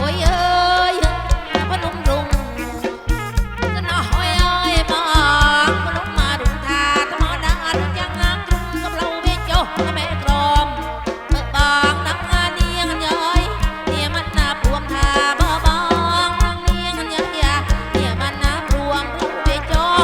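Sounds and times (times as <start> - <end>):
heavy bass drum beat: 0.0 - 20.0
live band through loudspeakers: 0.0 - 20.0.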